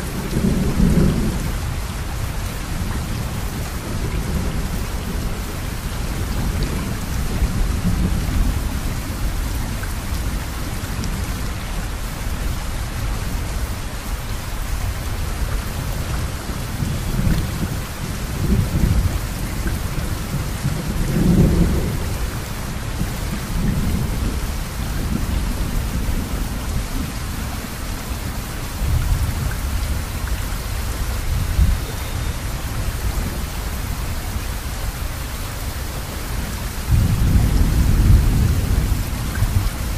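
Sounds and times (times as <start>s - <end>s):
low thunder rumbles: 0.0s - 11.6s, 14.8s - 35.0s, 36.1s - 39.9s
rain hiss: 0.0s - 39.9s.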